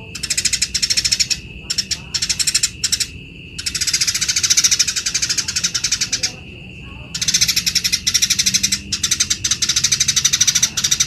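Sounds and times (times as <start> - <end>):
sparrows rattling chatter: 0.0 - 11.0.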